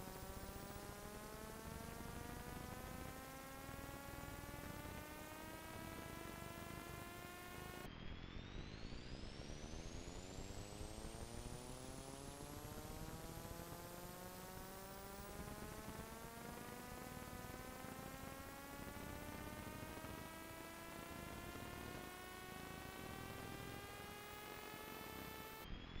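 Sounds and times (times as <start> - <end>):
electrical buzz rising in pitch: 0.0 - 26.0
low mains hum: 0.0 - 26.0.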